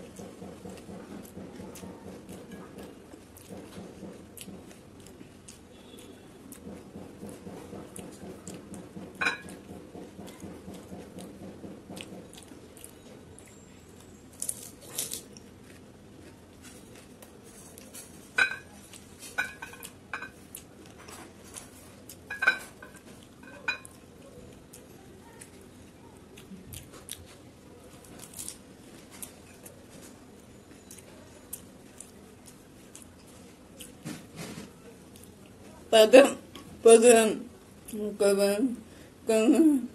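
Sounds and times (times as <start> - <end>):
chewing: 0.0 - 35.8.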